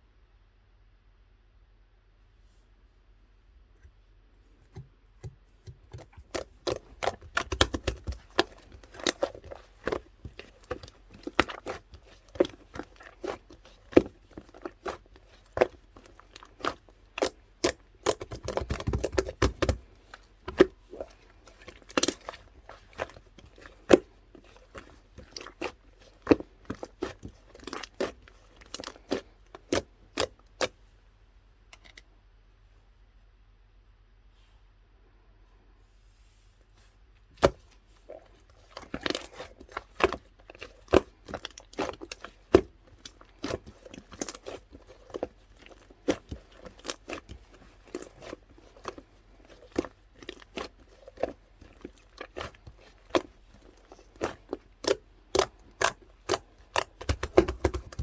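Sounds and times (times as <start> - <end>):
slime squishing: 4.4 - 30.9, 36.6 - 58.0.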